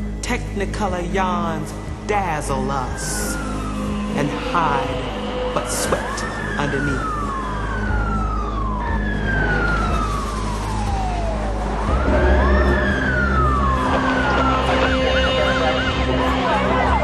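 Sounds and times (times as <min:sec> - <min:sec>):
street traffic rumble: 0:00.0 - 0:17.0
police sirens wailing: 0:01.3 - 0:17.0
siren fast yelp: 0:03.0 - 0:17.0.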